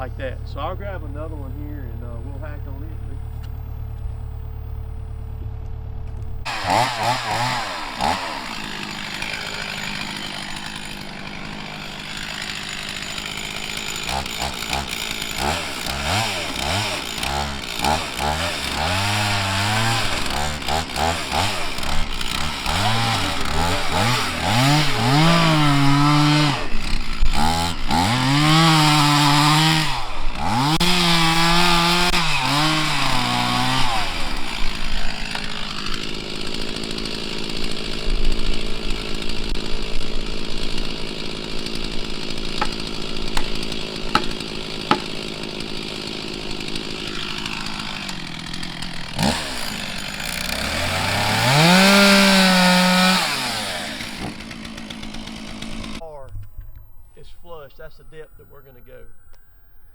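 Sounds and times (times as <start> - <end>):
chainsaw revving and idling: 0.0 - 56.2.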